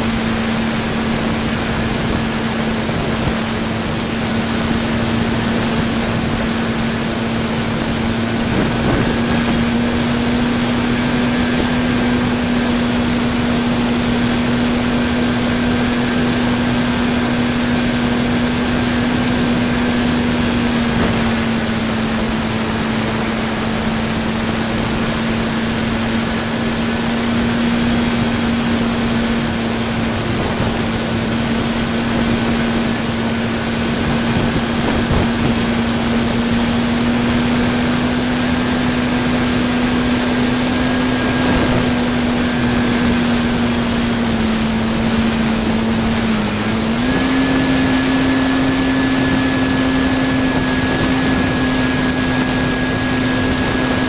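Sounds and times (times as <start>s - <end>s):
electric motor and propeller drone: 0.0s - 54.0s
rushing air: 0.0s - 54.0s.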